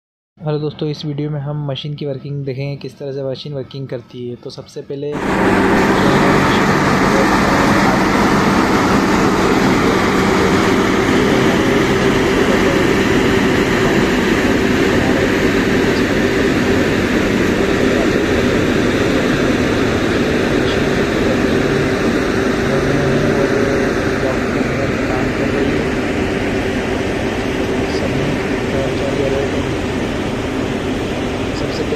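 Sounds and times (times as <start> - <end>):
diesel machinery drone: 5.2 - 31.9.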